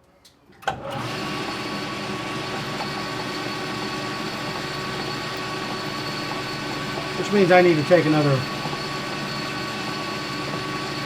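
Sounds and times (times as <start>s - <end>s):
metal lathe humming: 1.0s - 11.0s.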